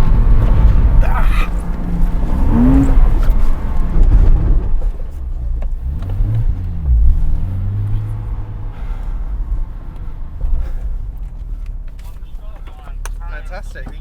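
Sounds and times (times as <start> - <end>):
car engine revving hard: 0.0 - 13.9.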